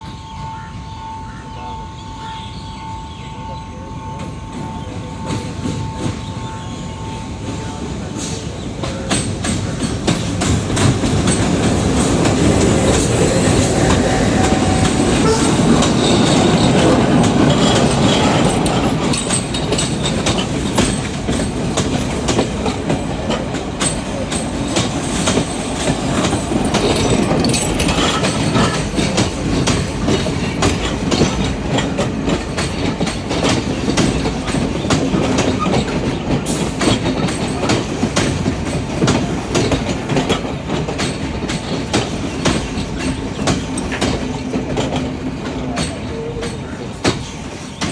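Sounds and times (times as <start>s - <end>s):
train wheels clattering on rails: 4.1s - 47.9s.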